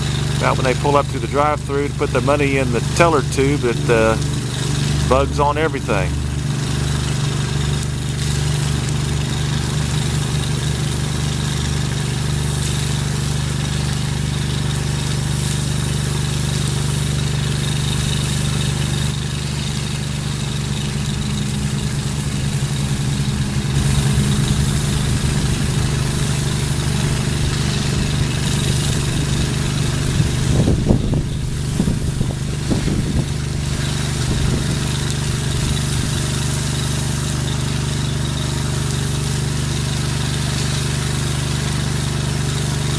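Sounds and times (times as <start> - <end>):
pressure washer engine running: 0.0 - 42.9
water jet spraying hiss: 0.0 - 42.9.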